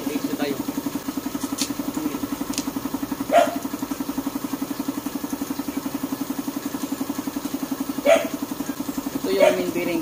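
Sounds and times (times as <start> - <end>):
small engine running steadily: 0.0 - 10.0.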